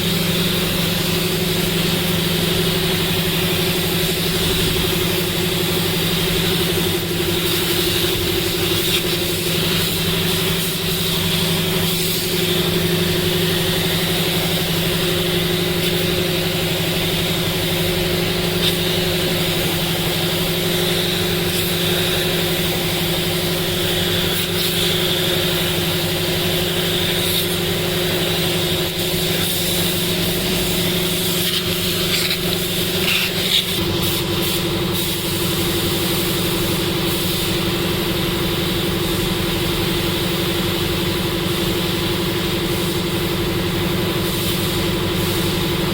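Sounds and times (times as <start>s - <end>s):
motor humming with high hiss: 0.0s - 45.9s.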